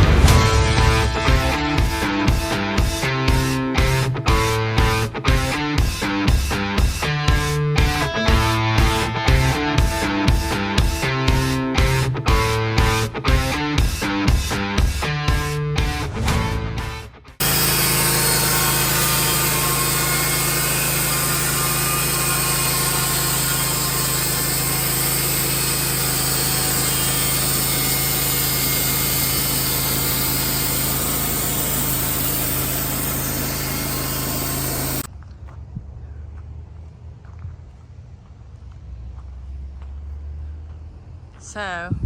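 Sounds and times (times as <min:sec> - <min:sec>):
power tool running: 0:00.0 - 0:35.1.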